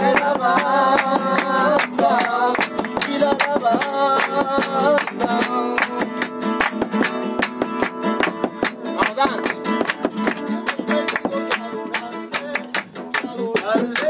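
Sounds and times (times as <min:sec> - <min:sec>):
acoustic guitar strummed: 0:00.0 - 0:14.0
hand clapping in rhythm: 0:00.0 - 0:14.0.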